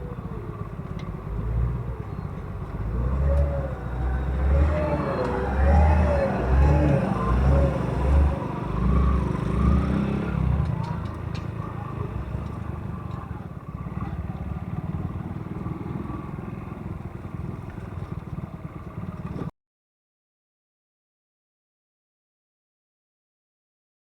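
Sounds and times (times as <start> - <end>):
motorcycle engine rumble: 0.0 - 19.5
road noise: 0.0 - 19.5.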